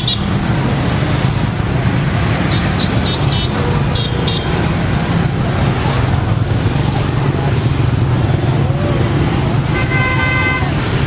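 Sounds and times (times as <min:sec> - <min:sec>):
scooters and motorbikes passing: 0:00.0 - 0:11.0.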